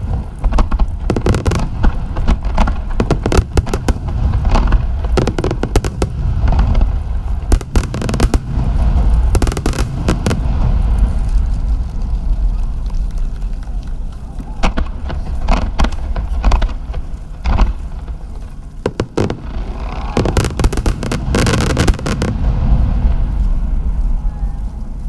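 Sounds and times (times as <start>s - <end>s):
fireworks booming: 0.0s - 25.0s
fireworks cracking: 0.0s - 25.0s
rapid fireworks crackling: 0.0s - 25.0s.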